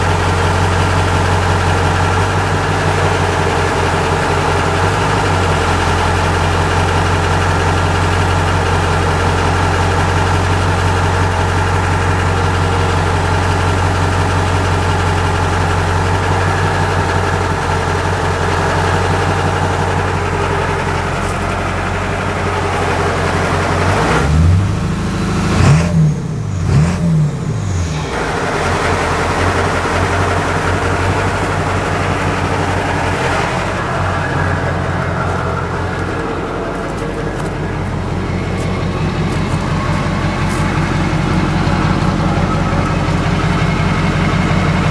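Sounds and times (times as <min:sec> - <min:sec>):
diesel engine idling and revving: 0:00.0 - 0:44.9.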